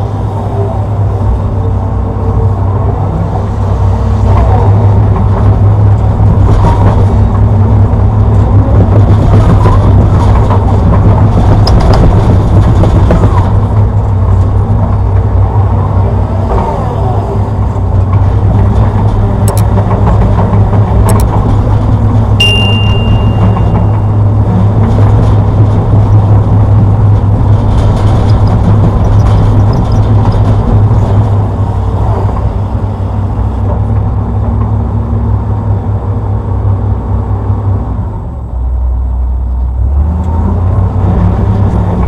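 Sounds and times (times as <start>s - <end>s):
excavator diesel engine droning: 0.0s - 42.0s.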